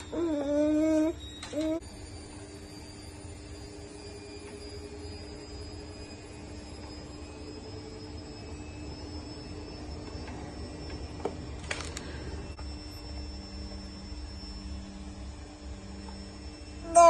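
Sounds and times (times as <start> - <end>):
faint steady tone: 1.8 - 17.0.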